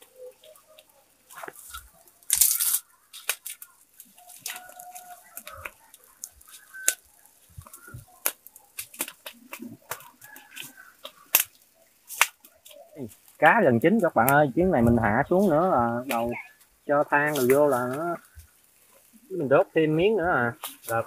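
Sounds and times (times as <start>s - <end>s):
clucking calls: 0.0s - 21.0s
fire crackling and popping: 0.0s - 21.0s.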